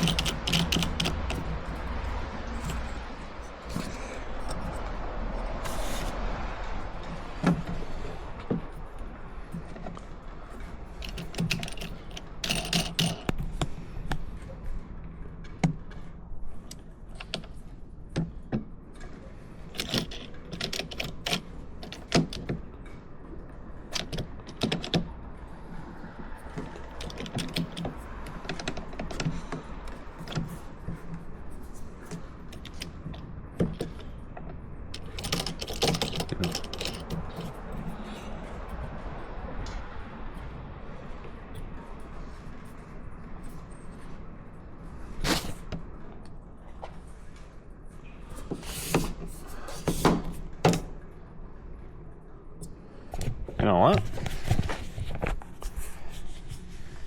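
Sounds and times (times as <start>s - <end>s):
clicks and rattles of hardware: 0.0s - 51.9s.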